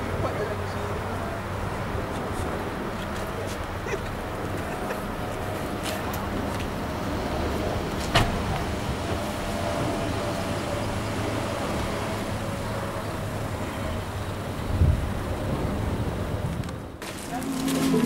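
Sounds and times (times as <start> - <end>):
car engines idling: 0.0 - 18.0
outdoor noise: 0.0 - 18.0.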